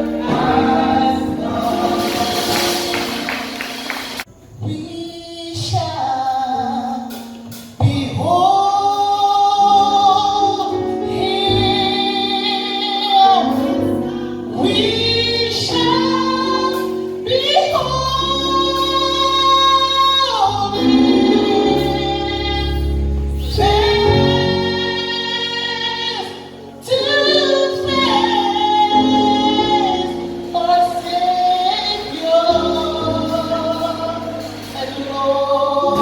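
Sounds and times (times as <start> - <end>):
instrumental backing: 0.0 - 36.0
woman singing gospel song: 0.0 - 36.0.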